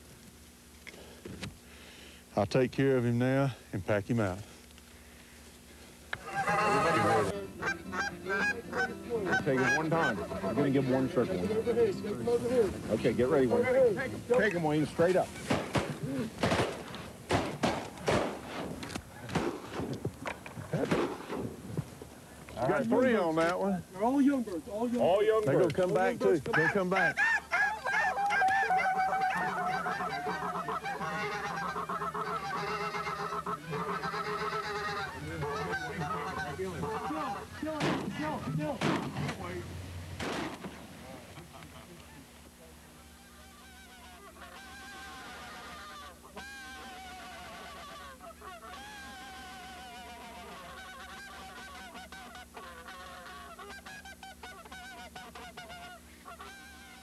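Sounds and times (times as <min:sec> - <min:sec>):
geese honking: 0:06.1 - 0:18.4, 0:22.3 - 0:57.0.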